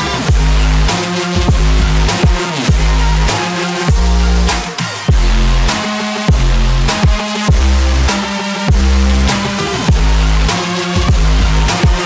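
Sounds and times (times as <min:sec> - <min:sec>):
electronic music with heavy bass: 0:00.0 - 0:12.0
drum hits with falling sweeps: 0:00.3 - 0:12.0.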